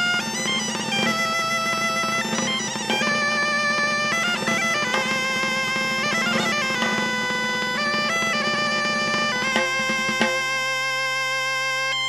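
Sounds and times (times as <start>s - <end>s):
bagpipe melody over drone: 0.0s - 12.0s.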